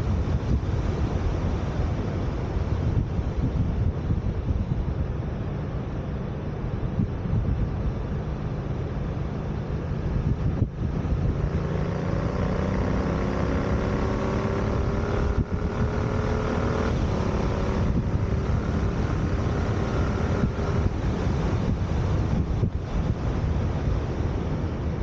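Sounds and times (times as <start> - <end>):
wind noise: 0.0 - 25.0.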